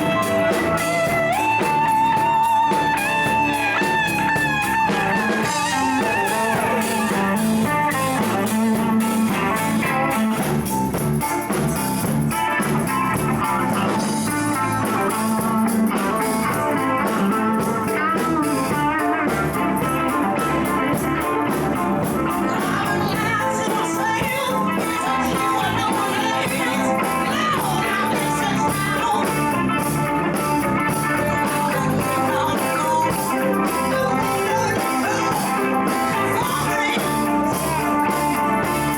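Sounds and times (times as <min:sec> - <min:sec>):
person singing: 0:00.0 - 0:10.4, 0:13.8 - 0:38.9
bass: 0:00.0 - 0:38.9
drums: 0:00.0 - 0:38.9
electric guitar: 0:00.0 - 0:38.9.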